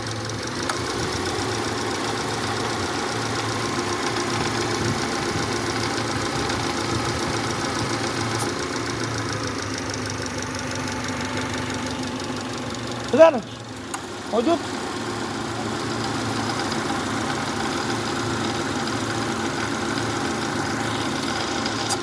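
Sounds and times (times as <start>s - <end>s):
car engine idling: 0.0s - 22.0s
rapid knocking rattle: 0.0s - 22.0s.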